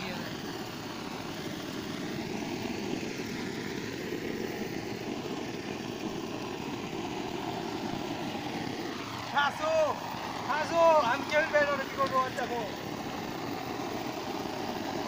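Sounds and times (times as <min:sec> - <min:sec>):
blowtorch burning: 0:00.0 - 0:15.0.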